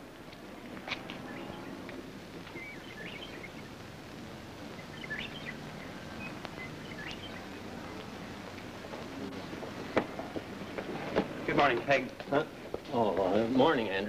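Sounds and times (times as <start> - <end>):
birds chirping: 0.0 - 14.0
steady background hiss: 0.0 - 14.0.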